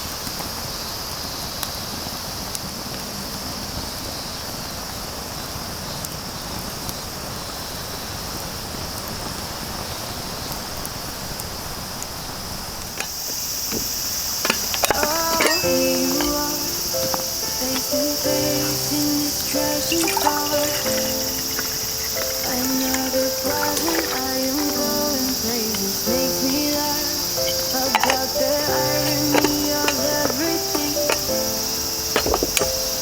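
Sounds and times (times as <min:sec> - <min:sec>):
insect chorus droning: 0:00.0 - 0:33.0.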